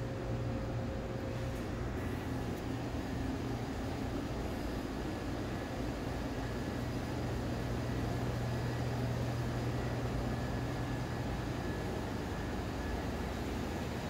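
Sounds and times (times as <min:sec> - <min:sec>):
low machine hum: 0:00.0 - 0:14.0
rush of ventilation air: 0:00.0 - 0:14.0.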